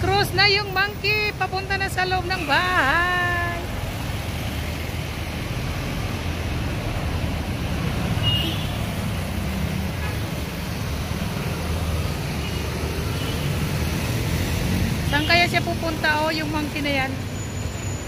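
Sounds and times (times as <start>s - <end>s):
motorcycles passing: 0.0s - 18.0s
truck passing: 1.3s - 18.0s.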